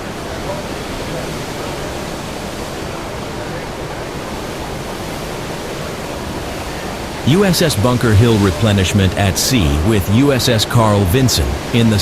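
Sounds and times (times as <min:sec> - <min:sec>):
sea water rushing: 0:00.0 - 0:12.0
wind: 0:00.0 - 0:12.0.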